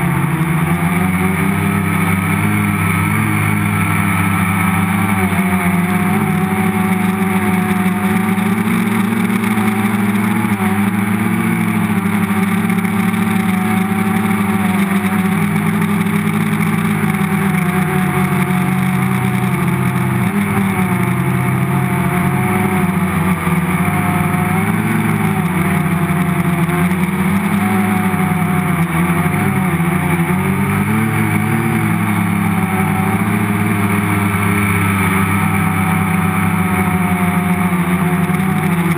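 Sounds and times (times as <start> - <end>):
multicopter propellers buzzing: 0.0 - 38.9.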